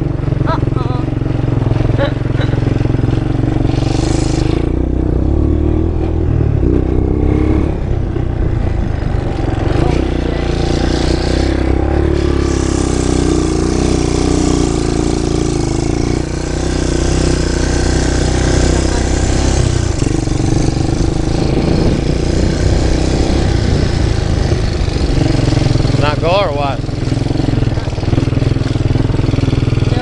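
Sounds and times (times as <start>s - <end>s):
off-road vehicle engine: 0.0s - 30.0s.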